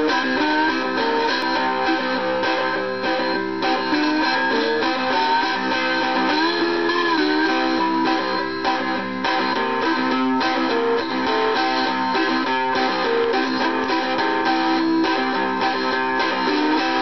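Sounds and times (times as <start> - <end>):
slide guitar blues riff: 0.0 - 17.0.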